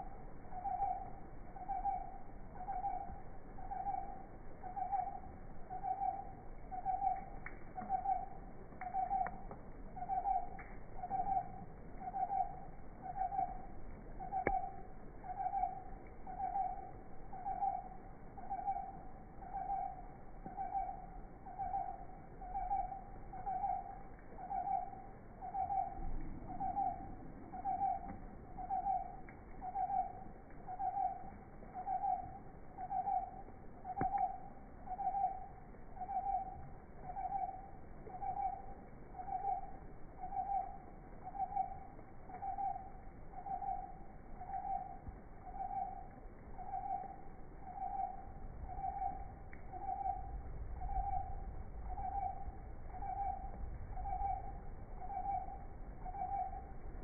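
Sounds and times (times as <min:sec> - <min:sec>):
faint low rumble: 0:00.0 - 0:57.0.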